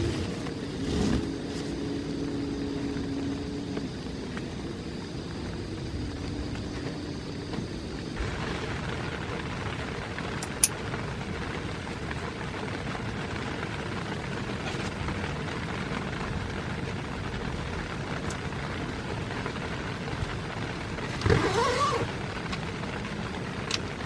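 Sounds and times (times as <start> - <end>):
rain falling on a tent: 0.0 - 24.0.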